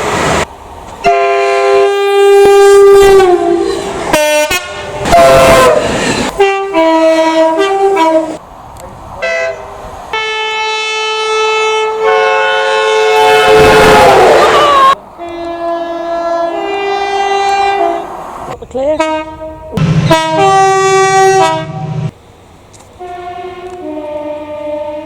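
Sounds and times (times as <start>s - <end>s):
train running noise: 0.0s - 25.0s
locomotive air horn blasts: 1.0s - 8.4s, 9.2s - 18.1s, 18.9s - 22.1s, 23.0s - 25.0s.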